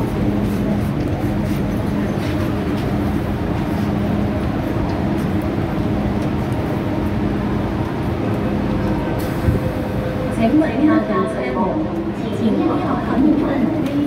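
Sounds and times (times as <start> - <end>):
train hum and hiss: 0.0 - 14.0.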